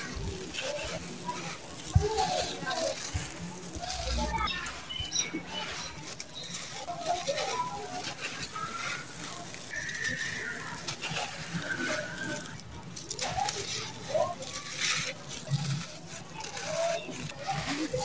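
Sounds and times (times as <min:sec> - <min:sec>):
gritty cement mix trickling: 0:00.0 - 0:18.0.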